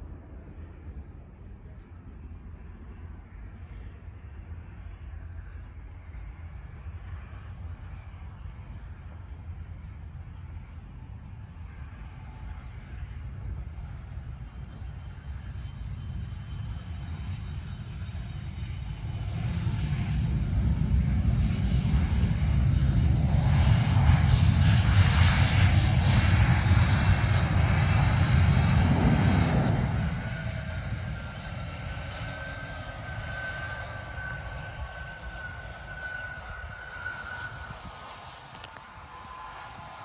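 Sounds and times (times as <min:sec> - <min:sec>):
jet engines passing: 0:00.0 - 0:40.0.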